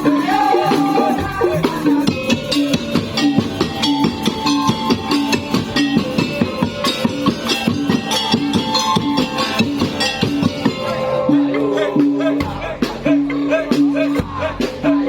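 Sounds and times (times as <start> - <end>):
percussion ensemble playing: 0.0 - 15.0.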